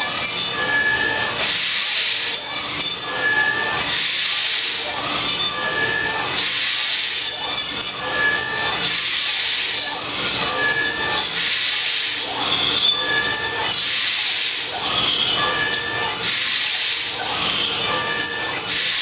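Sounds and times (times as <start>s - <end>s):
router bit cutting hiss: 0.0s - 19.0s
spindle whine: 0.0s - 19.0s.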